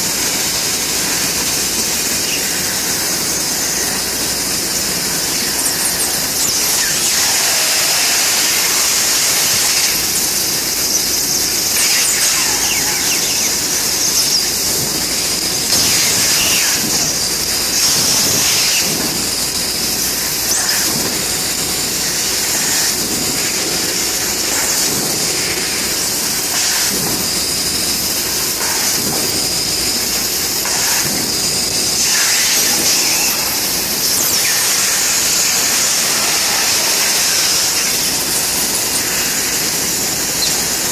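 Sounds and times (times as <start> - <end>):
laser cutting machine hissing: 0.0 - 40.9
machine squeals: 0.0 - 40.9.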